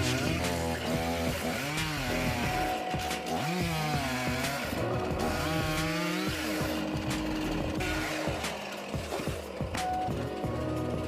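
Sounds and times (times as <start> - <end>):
background music: 0.0 - 11.0
chainsaw engine revving: 0.0 - 11.0.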